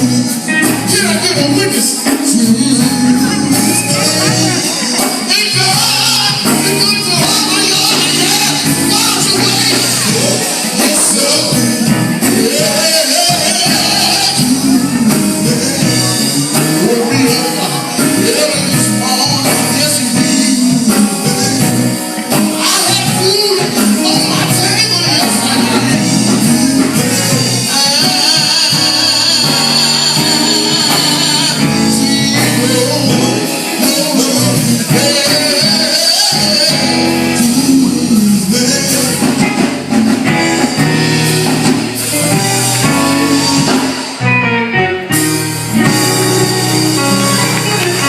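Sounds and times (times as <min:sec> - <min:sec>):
gospel singing with band: 0:00.0 - 0:48.0.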